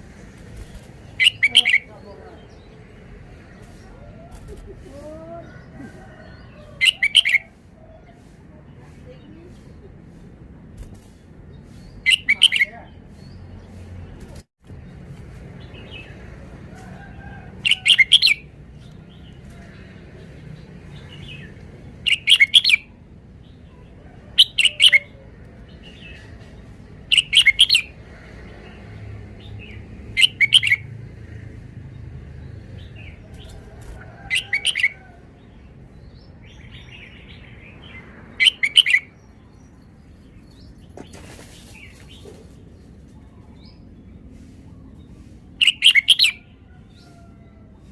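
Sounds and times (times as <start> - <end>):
bird singing bright phrases: 0.2 - 16.4, 17.2 - 31.0, 32.0 - 47.2.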